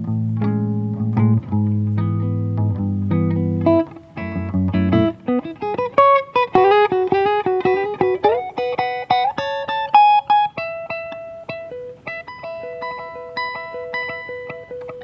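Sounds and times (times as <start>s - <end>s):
solo guitar melody: 0.0s - 15.0s.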